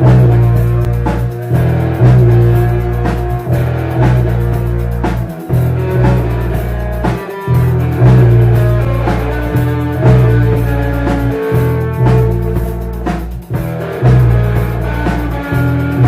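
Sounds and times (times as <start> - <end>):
heavy low bass note: 0.0 - 16.0
rock band playing live: 0.0 - 16.0.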